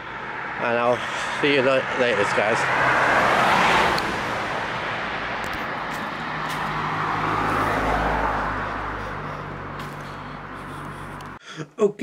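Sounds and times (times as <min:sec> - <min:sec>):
car passing: 0:00.0 - 0:11.4.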